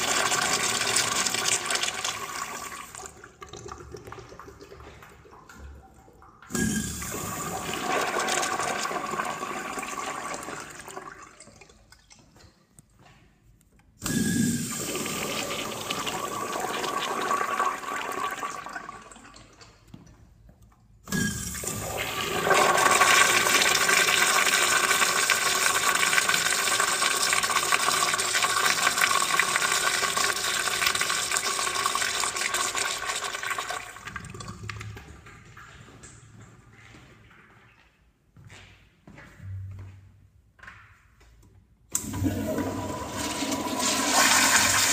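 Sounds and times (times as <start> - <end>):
urinal flushing: 0.0 - 12.1, 14.0 - 20.1, 21.1 - 36.3, 41.9 - 44.9.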